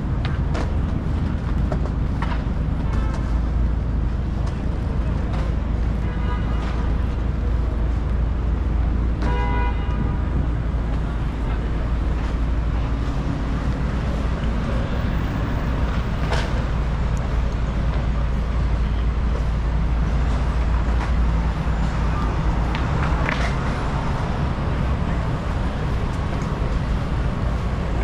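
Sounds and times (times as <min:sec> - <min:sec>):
city traffic rumble: 0:00.0 - 0:28.0
faint voices of passers-by: 0:00.0 - 0:28.0.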